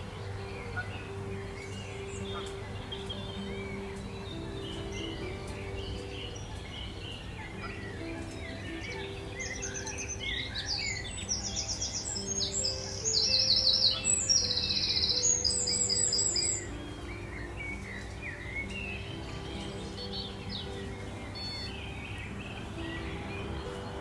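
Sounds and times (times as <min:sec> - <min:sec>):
songbird trilling and whistling: 0:00.0 - 0:24.0.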